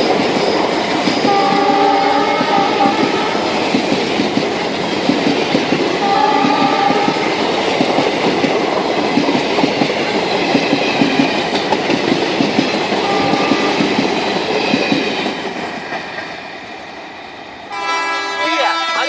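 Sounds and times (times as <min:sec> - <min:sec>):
train wheels clattering: 0:00.0 - 0:17.1.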